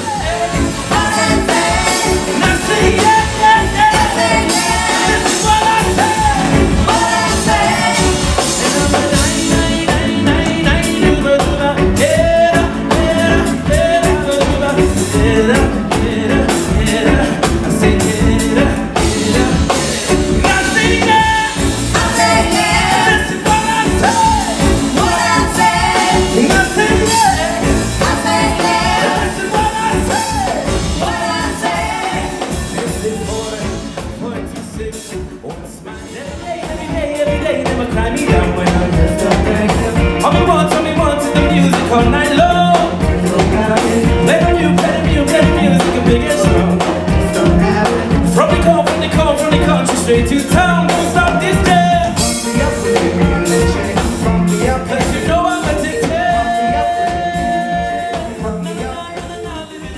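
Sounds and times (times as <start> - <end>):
live reggae band playing: 0.0 - 59.9
person singing: 0.0 - 59.9.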